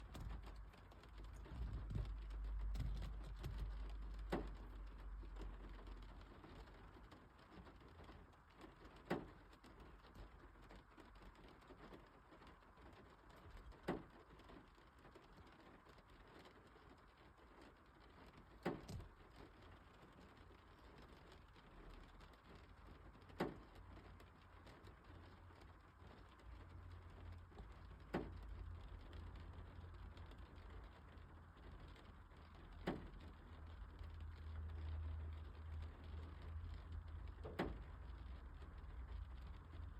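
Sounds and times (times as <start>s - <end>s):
low steady rumble: 0.0s - 39.9s
raindrops tapping on glass: 0.0s - 39.9s.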